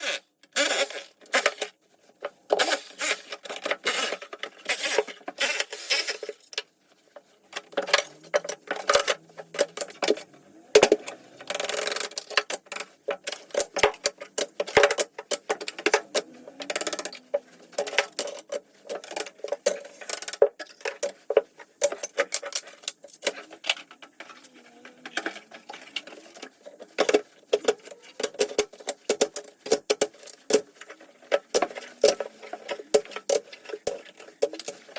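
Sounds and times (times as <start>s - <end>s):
scraping tiles: 0.0s - 34.9s.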